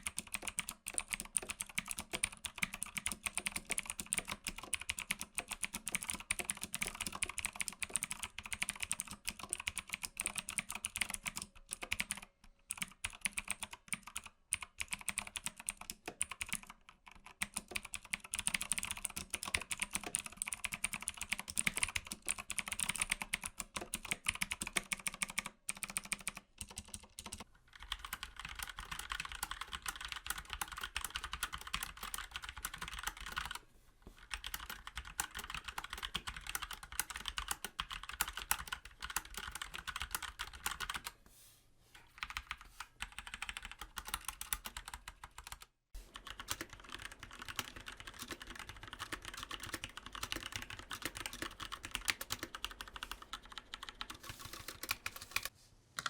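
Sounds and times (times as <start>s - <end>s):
typing on mechanical keyboard: 0.0s - 33.6s, 34.2s - 41.2s, 42.1s - 55.5s.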